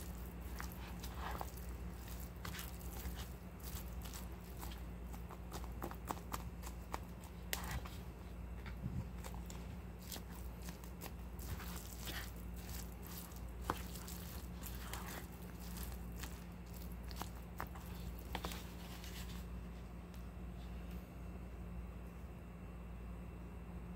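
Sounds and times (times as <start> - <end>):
spoon scraping through rice: 0.0 - 19.5
low steady hum: 0.0 - 23.9.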